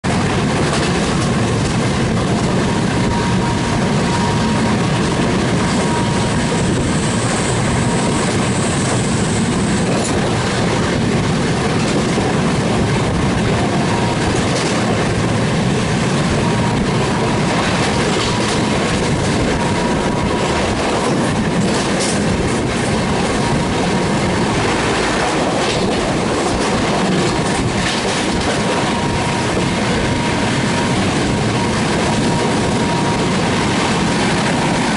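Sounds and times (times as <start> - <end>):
train rumbling on track: 0.0 - 34.9.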